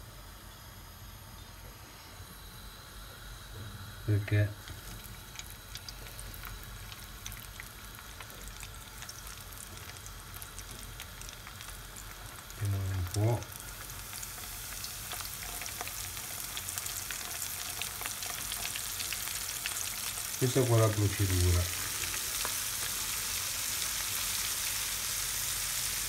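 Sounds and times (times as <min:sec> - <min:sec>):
oil sizzling in a frying pan: 0:02.2 - 0:26.0.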